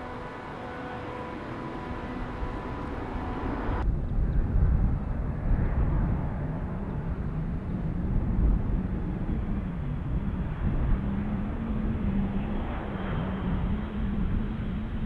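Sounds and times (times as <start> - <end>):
airliner engine whine: 0.0 - 15.0
jet engine rumbling: 0.0 - 15.0.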